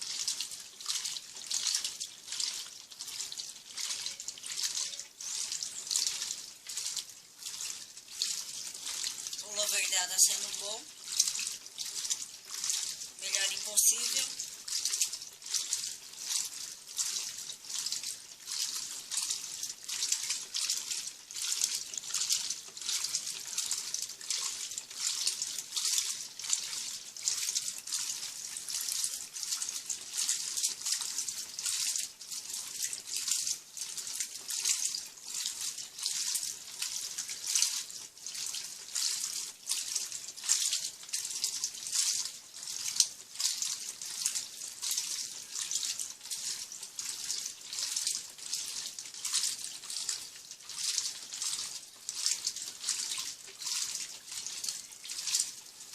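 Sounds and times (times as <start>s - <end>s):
washing machine water sloshing: 0.0s - 55.8s.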